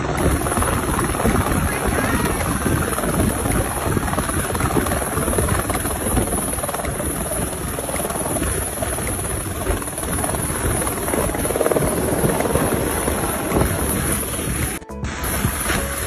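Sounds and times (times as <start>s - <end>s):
helicopter engine and rotor blades: 0.0s - 16.0s.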